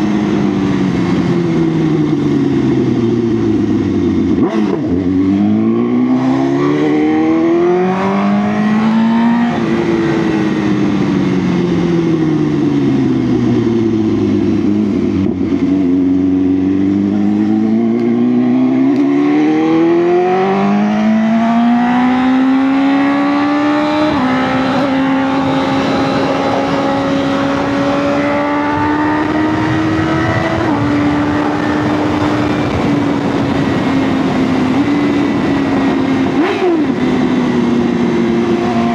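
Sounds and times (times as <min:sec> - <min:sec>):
motorcycle engine revving and shifting: 0:00.0 - 0:38.9.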